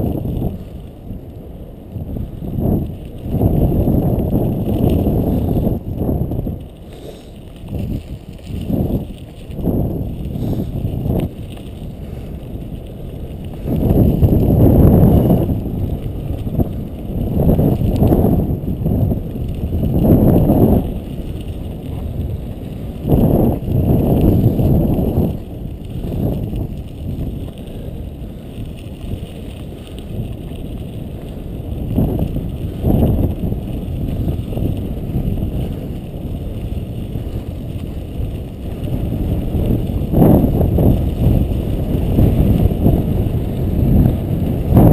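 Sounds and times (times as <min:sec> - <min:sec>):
wind noise on microphone: 0:00.0 - 0:44.9.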